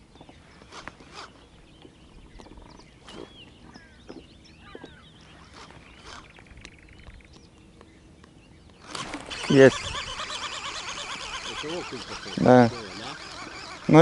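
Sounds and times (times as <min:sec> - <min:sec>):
faint birdsong: 0:00.0 - 0:14.0.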